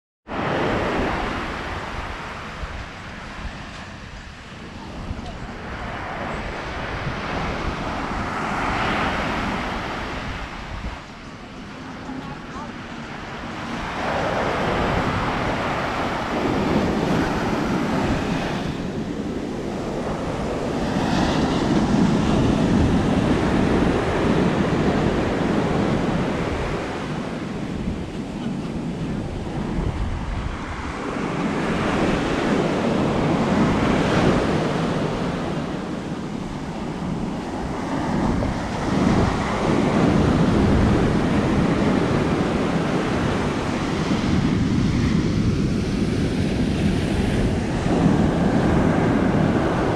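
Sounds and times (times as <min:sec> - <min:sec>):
surf breaking on beach: 0:00.3 - 0:49.9
wind buffeting microphone: 0:00.3 - 0:49.9.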